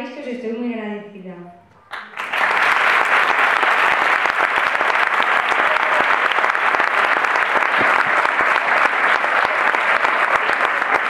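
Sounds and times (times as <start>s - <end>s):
crowd applauding: 1.8s - 11.0s.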